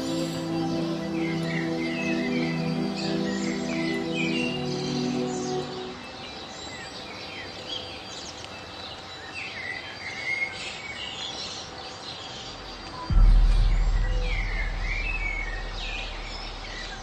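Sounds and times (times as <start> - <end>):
birds chirping: 0.0 - 17.0
steady outdoor hiss: 0.0 - 17.0.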